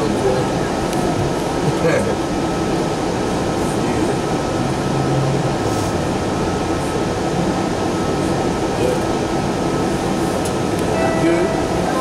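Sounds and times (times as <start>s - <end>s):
constant thin whine: 0.0s - 12.0s
train ride noise: 0.0s - 12.0s.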